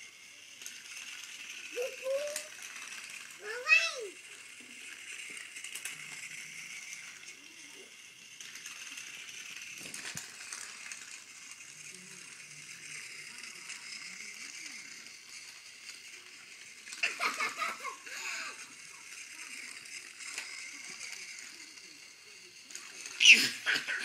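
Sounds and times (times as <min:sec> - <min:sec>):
toy train motor whirring rattle: 0:00.0 - 0:24.0.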